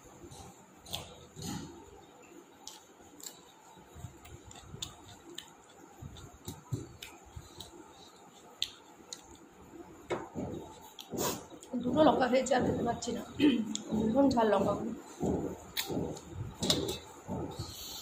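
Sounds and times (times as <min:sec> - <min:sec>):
person chewing: 0:00.2 - 0:11.8, 0:13.6 - 0:14.0, 0:15.0 - 0:18.0.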